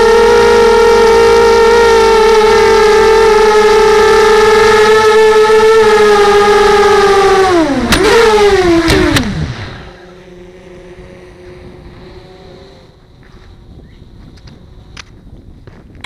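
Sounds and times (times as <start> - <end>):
drone hitting tarmac: 0.0 - 16.0
drone motors whining: 0.0 - 16.0.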